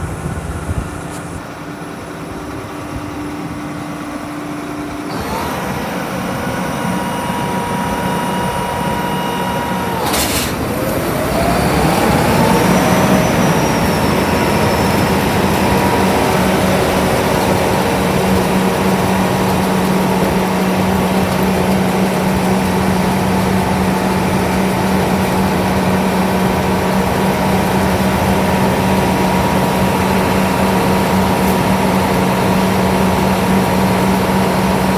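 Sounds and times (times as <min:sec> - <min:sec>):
combine harvester running: 0:00.0 - 0:34.9
machine whine: 0:00.0 - 0:34.9.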